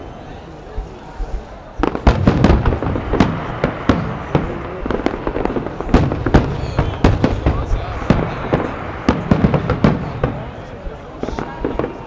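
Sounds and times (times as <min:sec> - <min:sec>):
fireworks bangs and crackling: 0:00.1 - 0:12.0.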